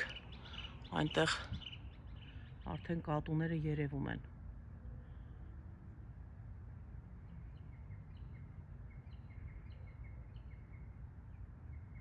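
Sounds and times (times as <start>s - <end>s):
faint outdoor rumble: 0.0s - 12.0s.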